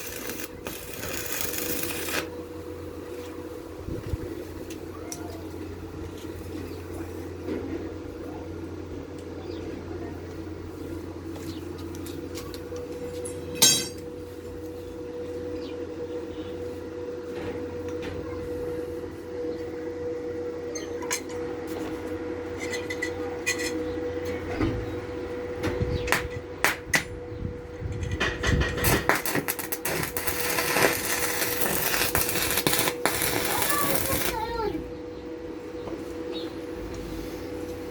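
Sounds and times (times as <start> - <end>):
machine hum: 0.0 - 37.9.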